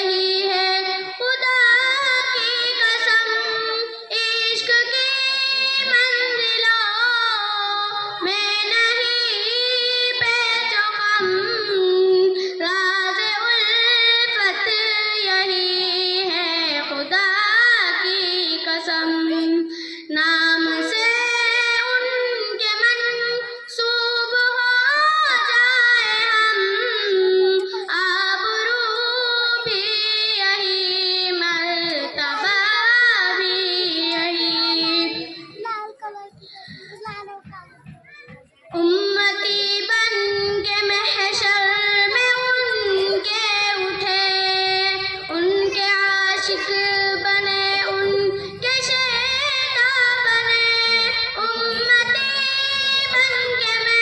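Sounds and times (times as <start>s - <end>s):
girl singing unaccompanied: 0.0s - 54.0s.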